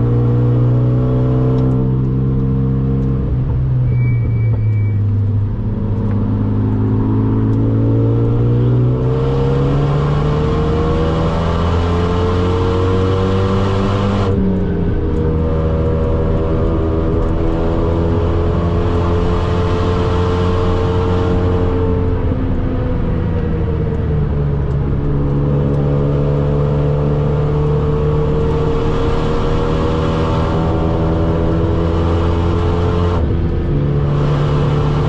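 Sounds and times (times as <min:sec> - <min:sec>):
car engine revving: 0:00.0 - 0:35.0
tyre and road noise: 0:00.0 - 0:35.0.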